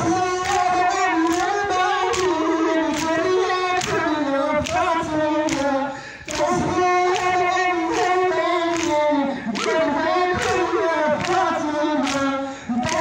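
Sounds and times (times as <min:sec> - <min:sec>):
amplified mourning chant: 0:00.0 - 0:13.0
crowd slapping chests in unison: 0:00.0 - 0:13.0.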